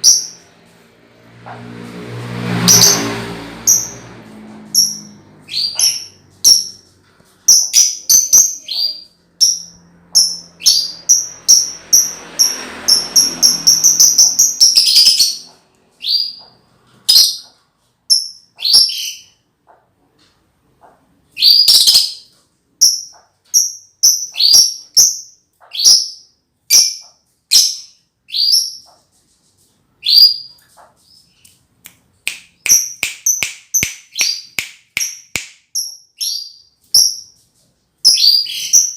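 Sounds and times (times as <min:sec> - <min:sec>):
bird chirping: 0:00.0 - 0:00.6, 0:02.6 - 0:19.8, 0:20.8 - 0:29.0, 0:30.0 - 0:31.6, 0:32.2 - 0:37.4, 0:38.0 - 0:38.9.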